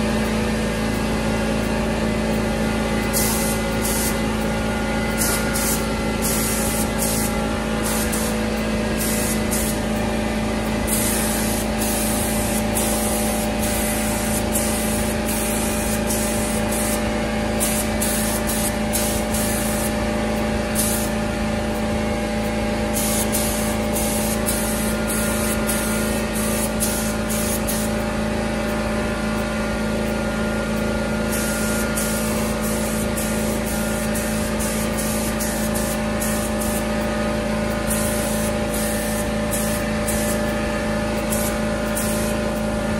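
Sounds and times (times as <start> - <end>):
air compressor humming: 0.0 - 42.9
paint spray gun hissing: 2.3 - 28.1, 31.2 - 42.7.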